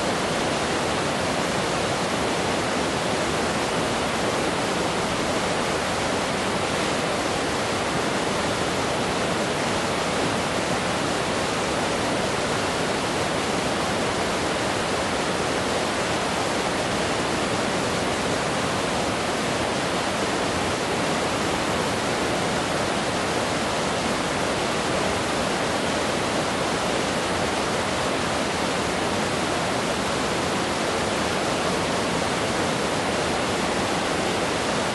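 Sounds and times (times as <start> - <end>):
river rushing over rocks: 0.0 - 34.9.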